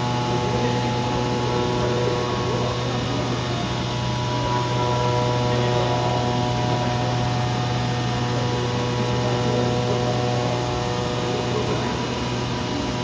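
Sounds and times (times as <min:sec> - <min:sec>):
cutting machine humming: 0:00.0 - 0:13.0.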